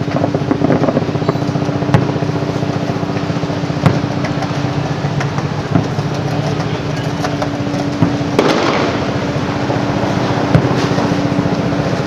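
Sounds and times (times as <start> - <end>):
fireworks bangs: 0.0 - 12.0
fireworks crackle: 0.0 - 12.0
steady low hum: 0.0 - 12.0.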